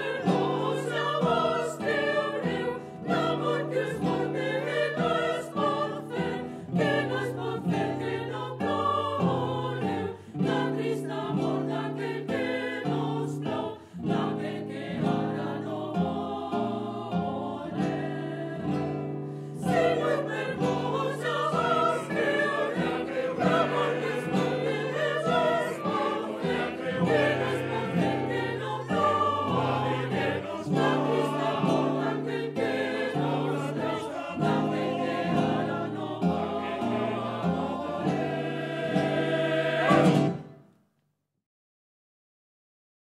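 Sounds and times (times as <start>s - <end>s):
mixed choir singing: 0.0s - 40.5s
classical guitar: 0.0s - 40.8s.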